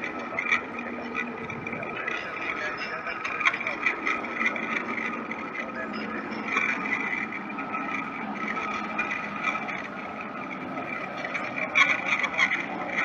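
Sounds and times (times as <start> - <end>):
jet engines whining and rumbling: 0.0 - 13.0.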